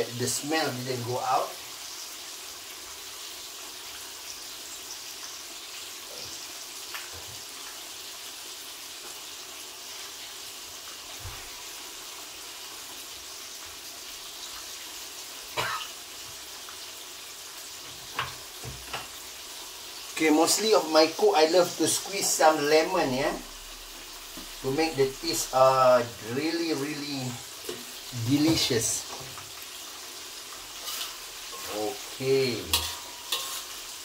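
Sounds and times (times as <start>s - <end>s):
fish deep-frying in oil: 0.0s - 34.0s.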